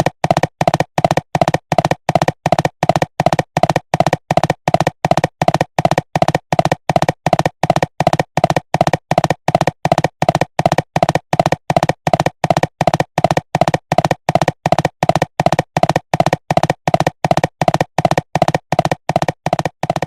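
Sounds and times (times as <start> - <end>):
cartoon hoofbeats galloping: 0.0 - 20.0.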